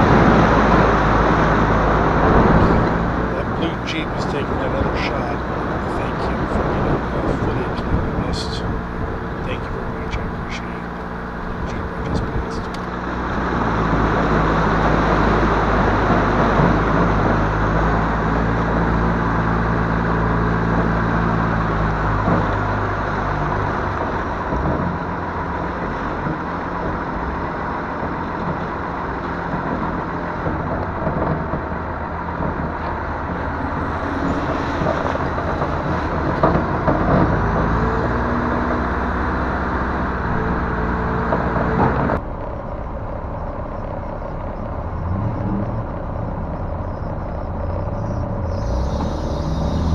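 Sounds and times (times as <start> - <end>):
wind rushing over microphone: 0.0 - 42.2
diesel truck engine running: 0.0 - 49.9.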